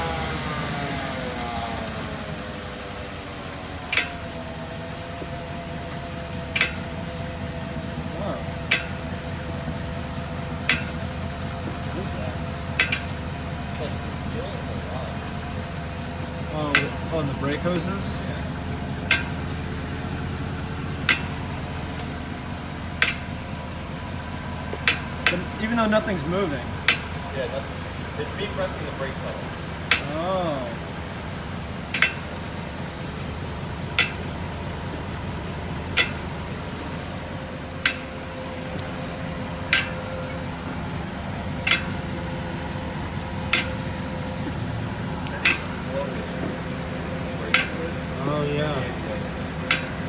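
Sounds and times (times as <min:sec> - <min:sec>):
brake clicks: 0:00.0 - 0:50.0
car engine humming: 0:00.0 - 0:50.0.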